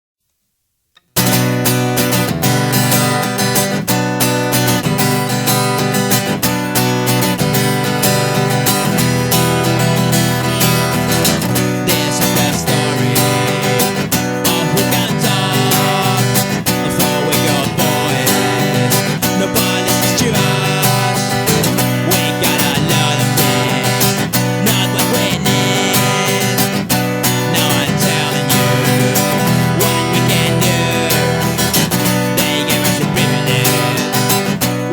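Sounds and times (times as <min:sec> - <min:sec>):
acoustic guitar strumming: 0:01.0 - 0:34.9.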